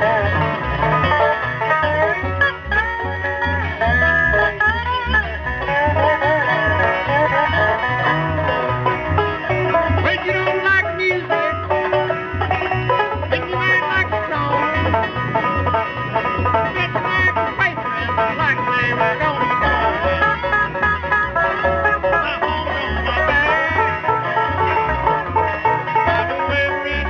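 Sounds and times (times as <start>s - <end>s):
banjo: 0.0s - 27.0s
bass notes pulsing: 0.0s - 27.0s
bluegrass band playing: 0.0s - 27.0s.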